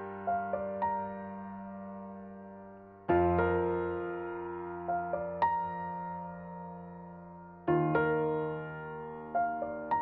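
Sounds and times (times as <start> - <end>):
slow solo piano: 0.0 - 10.0.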